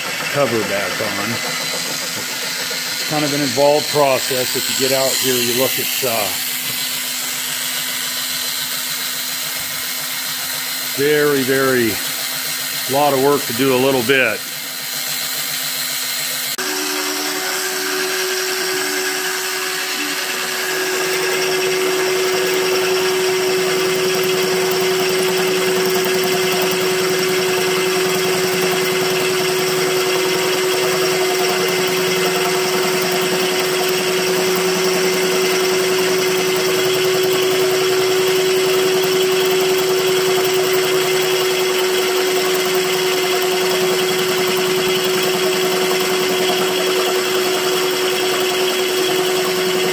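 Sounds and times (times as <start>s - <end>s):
cutter cutting metal: 0.0s - 49.9s
electric drill whining: 0.0s - 49.9s.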